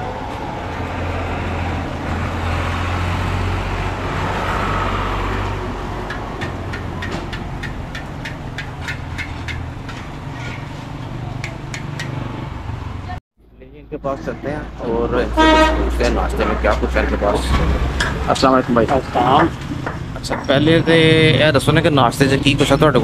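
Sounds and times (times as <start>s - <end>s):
vehicle engine hum with road noise: 0.0s - 23.0s.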